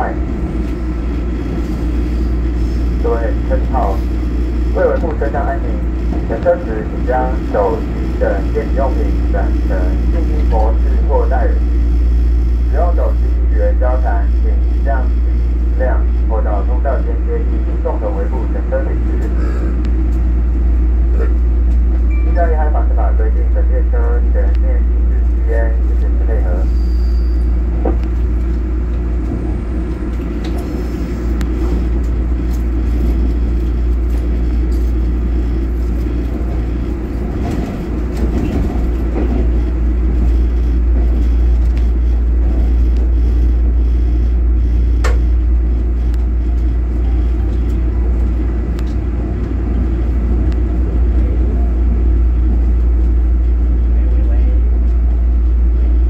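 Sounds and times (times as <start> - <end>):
train interior rumble: 0.0 - 56.0.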